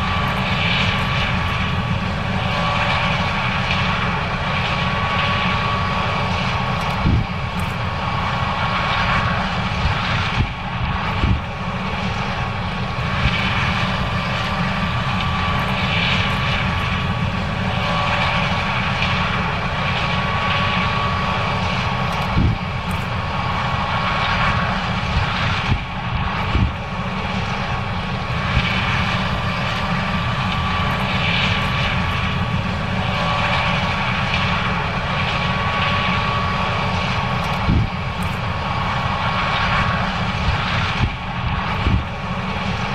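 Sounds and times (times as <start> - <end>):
combine harvester engine droning: 0.0 - 42.9
high steady whine: 0.0 - 42.9.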